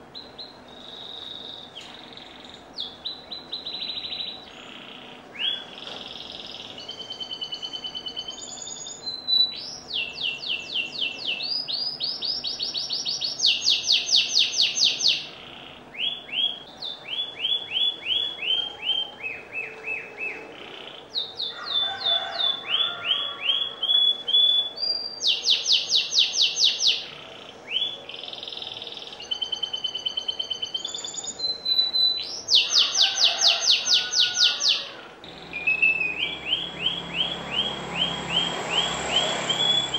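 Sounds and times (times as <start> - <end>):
canary singing: 0.2 - 39.9.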